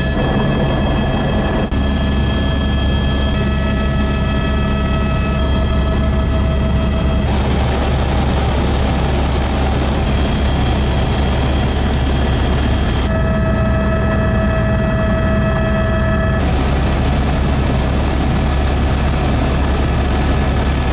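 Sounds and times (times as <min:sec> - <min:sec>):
helicopter drone from inside cabin: 0:00.0 - 0:20.9
high whine: 0:00.0 - 0:20.9.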